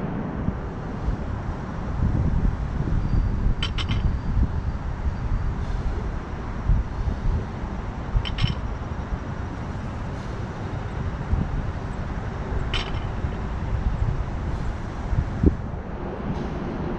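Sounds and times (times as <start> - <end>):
distant road traffic rumble: 0.0 - 16.9.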